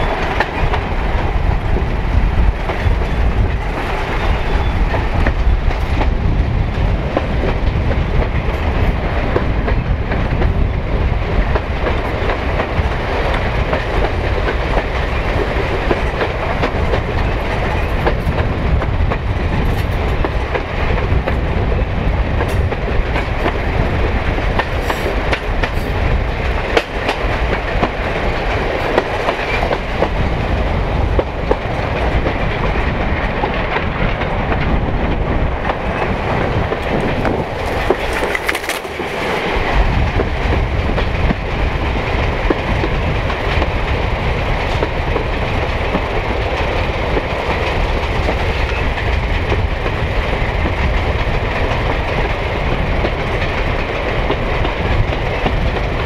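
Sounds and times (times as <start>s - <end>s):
clickety-clack over rail joints: 0.0s - 56.0s
train wheels rumbling on track: 0.0s - 56.0s
wind rushing past microphone: 0.0s - 56.0s.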